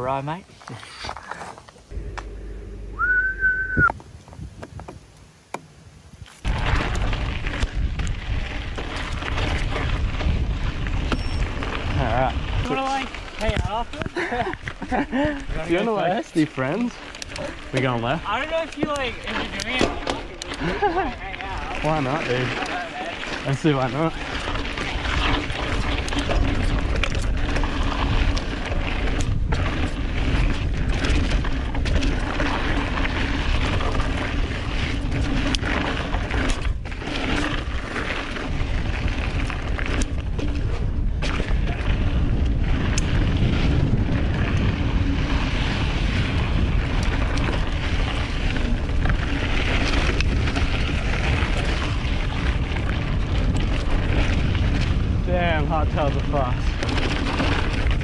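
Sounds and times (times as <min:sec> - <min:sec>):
wind buffeting microphone: 0:06.1 - 0:15.8, 0:20.4 - 0:58.0.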